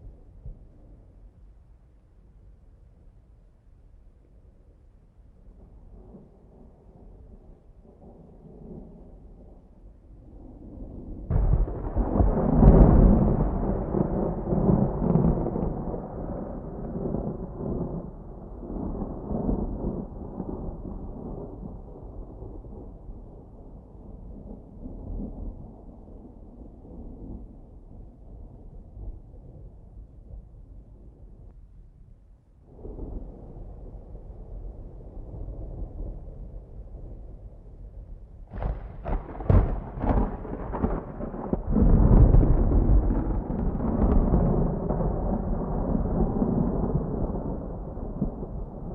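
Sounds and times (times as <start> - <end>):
rolling thunder: 5.6 - 30.7, 32.7 - 48.9.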